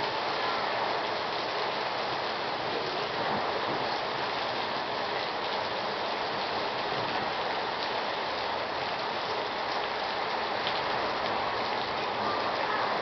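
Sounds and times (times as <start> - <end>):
torrential rain: 0.0 - 13.0.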